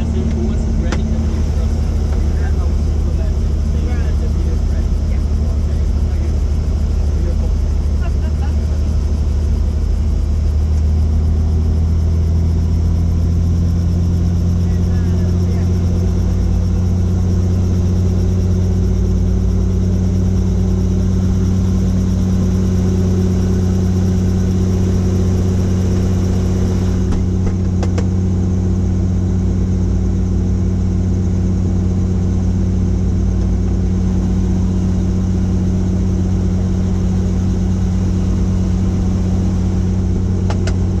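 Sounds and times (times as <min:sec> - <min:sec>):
helicopter drone: 0:00.0 - 0:41.0.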